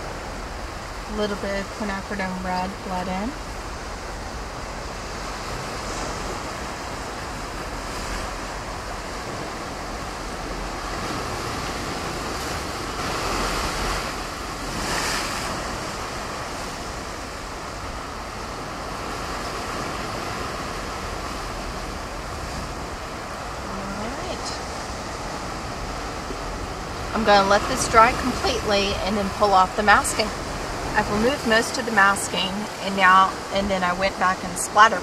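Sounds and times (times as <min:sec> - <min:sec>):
ocean surf washing: 0:00.0 - 0:35.0.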